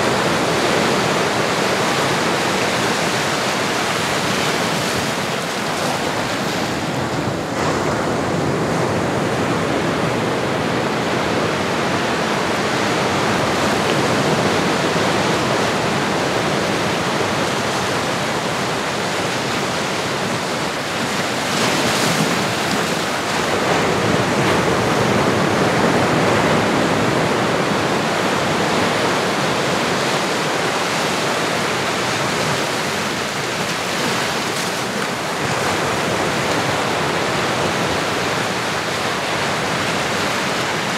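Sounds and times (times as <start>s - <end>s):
ocean waves washing ashore: 0.0s - 40.9s.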